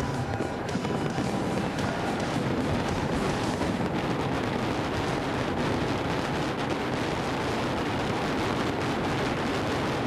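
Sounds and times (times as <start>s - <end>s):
fireworks crackle: 0.0s - 10.0s
fireworks launching and bursting: 0.0s - 10.0s.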